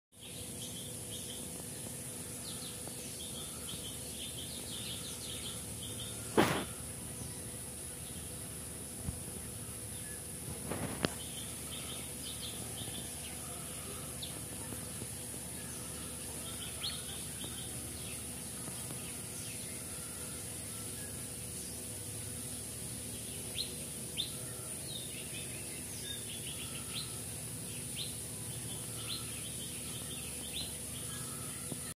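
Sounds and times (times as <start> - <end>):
small birds chirping: 0.1 - 31.9
steady hiss: 0.2 - 31.9.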